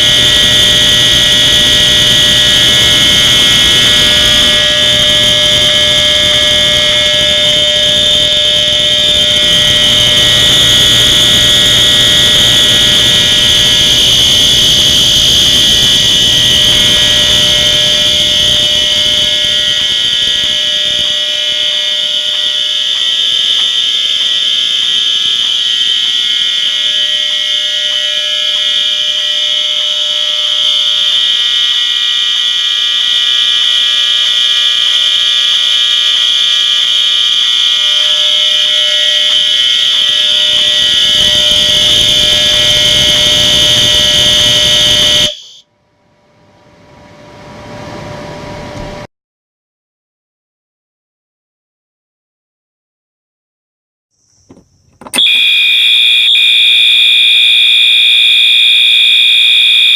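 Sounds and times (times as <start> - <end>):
fire alarm horn steady tone: 0.0 - 45.6, 55.1 - 59.9.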